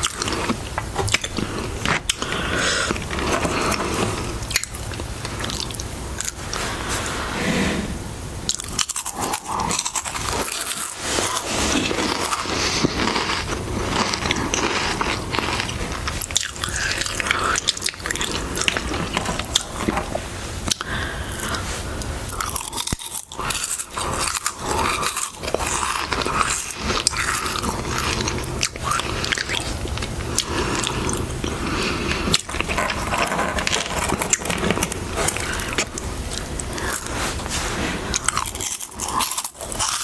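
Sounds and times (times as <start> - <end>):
crisps being chewed: 0.0 - 7.4, 8.4 - 40.0.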